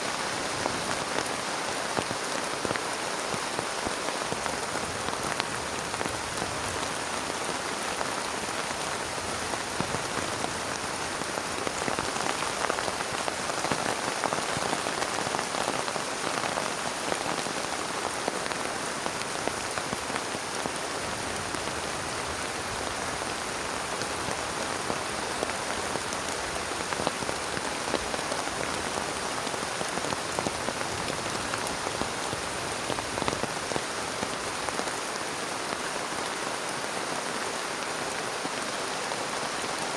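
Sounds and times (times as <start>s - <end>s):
heavy rain hitting a surface: 0.0s - 39.9s.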